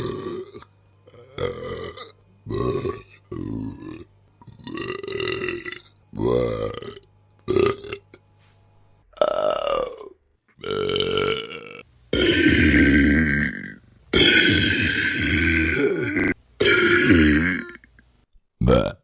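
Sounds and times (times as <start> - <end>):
person burping: 0.0 - 8.2, 9.1 - 18.0, 18.6 - 19.0.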